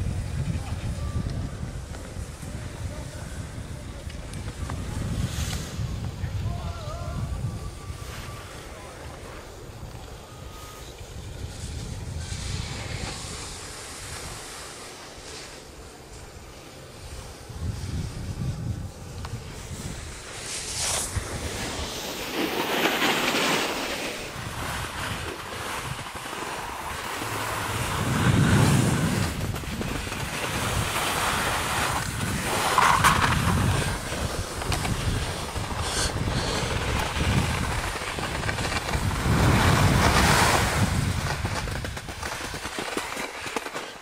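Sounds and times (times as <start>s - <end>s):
wind over microphone: 0.0s - 15.8s, 17.0s - 44.0s
skis scraping through slush: 7.8s - 18.7s, 19.4s - 44.0s.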